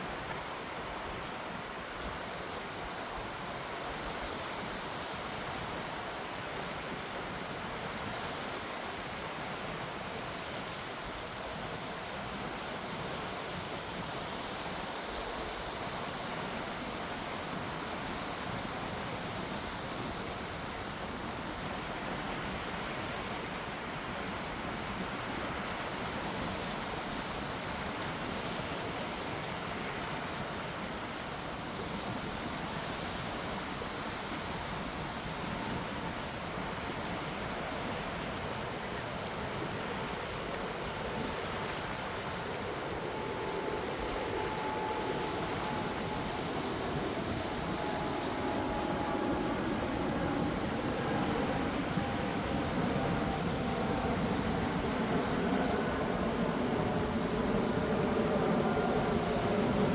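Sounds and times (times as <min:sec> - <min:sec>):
gentle sea waves washing: 0:00.0 - 0:59.9.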